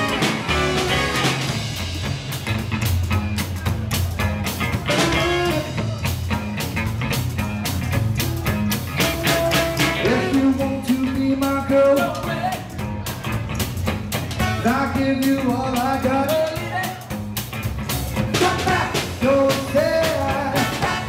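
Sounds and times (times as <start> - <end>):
steady drum beat: 0.0 - 21.0
swing band playing: 0.0 - 21.0.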